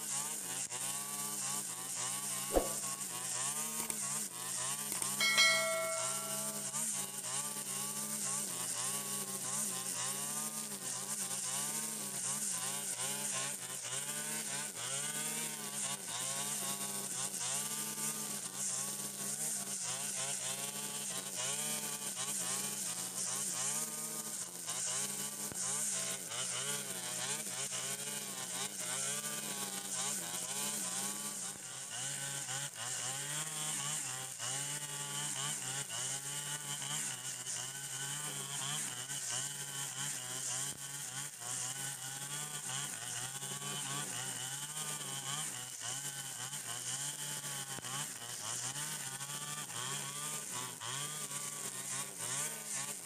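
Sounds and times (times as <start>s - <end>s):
brush cutter engine cutting grass: 0.0s - 6.2s, 7.3s - 53.0s.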